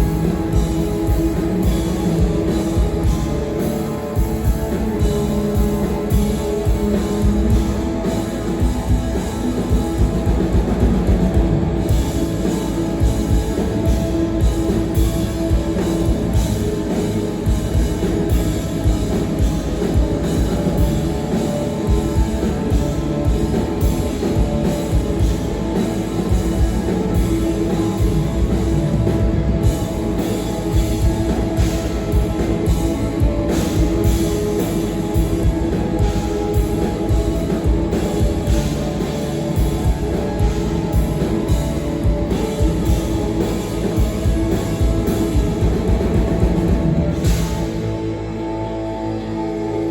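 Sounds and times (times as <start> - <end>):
guitar: 0.0 - 49.9
loud drums: 0.0 - 49.9
rock band playing live: 0.0 - 49.9.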